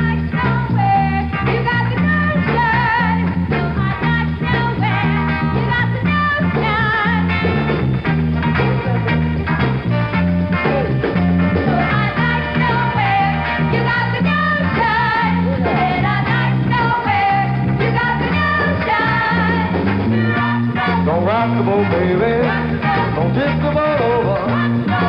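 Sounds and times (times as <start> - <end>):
bouncing bass line: 0.0 - 25.0
upbeat instrumental band music: 0.0 - 25.0.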